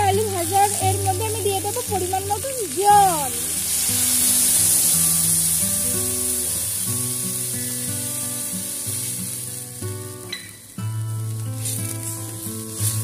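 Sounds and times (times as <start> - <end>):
water sizzling in hot oil: 0.0 - 13.0.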